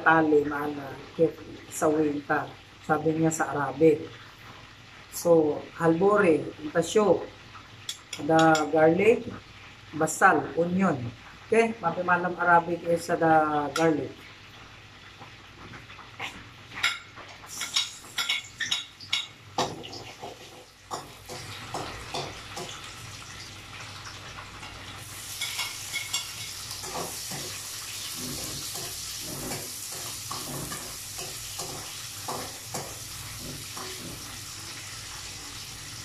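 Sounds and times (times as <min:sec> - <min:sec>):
garlic and onion frying in oil: 0:00.0 - 0:36.0.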